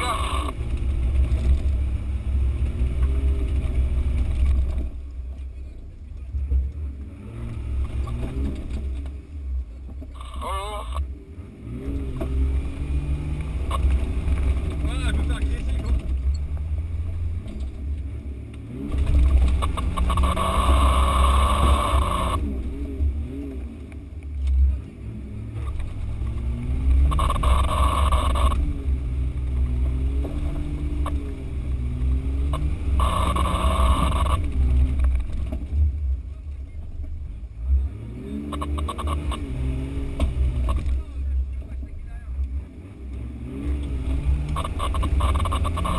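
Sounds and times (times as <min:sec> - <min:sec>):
off-road engine working under load: 0:00.0 - 0:45.9.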